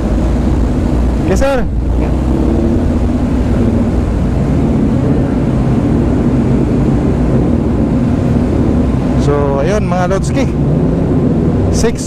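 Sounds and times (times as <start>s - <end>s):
ship engines droning: 0.0s - 12.0s.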